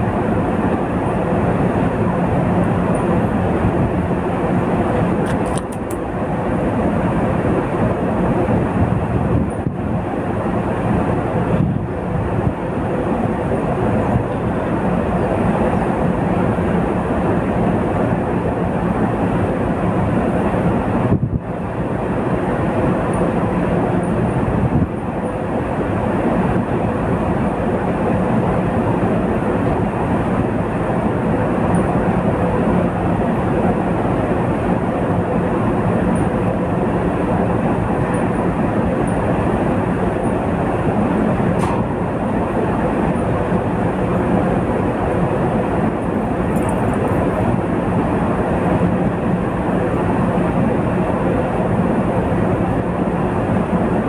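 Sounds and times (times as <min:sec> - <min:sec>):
sea noise: 0:00.0 - 0:54.0
ship engine droning: 0:00.0 - 0:54.0
wind: 0:00.0 - 0:54.0.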